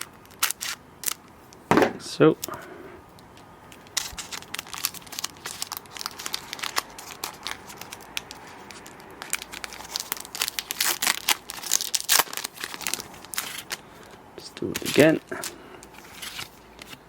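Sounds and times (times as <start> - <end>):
foil wrapper crinkling and tearing: 0.0 - 1.2, 3.7 - 17.0.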